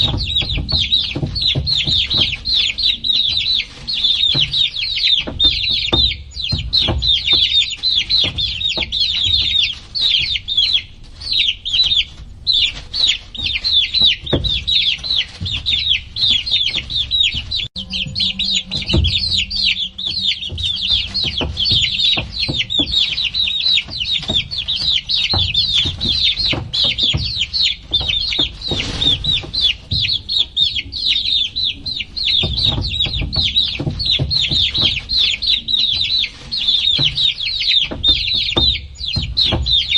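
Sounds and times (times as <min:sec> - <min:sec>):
baby chicks peeping: 0:00.0 - 0:39.9
low thumps: 0:00.0 - 0:39.9.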